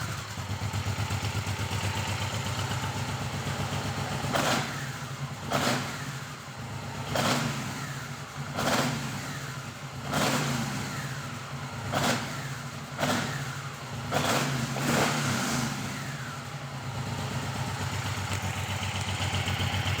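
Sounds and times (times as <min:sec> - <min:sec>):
motorcycle engine idling: 0:00.0 - 0:20.0
motorcycle engine revving: 0:00.0 - 0:20.0.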